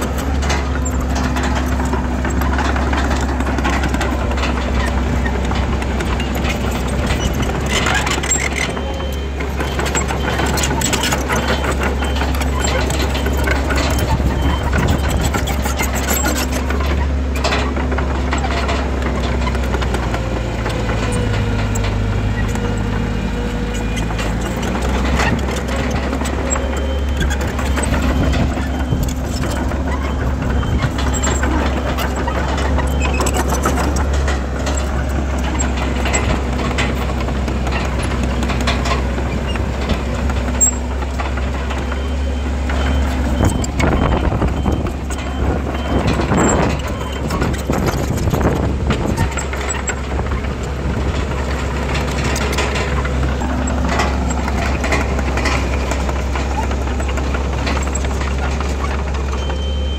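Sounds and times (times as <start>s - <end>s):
heavy diesel machinery humming: 0.0s - 59.9s.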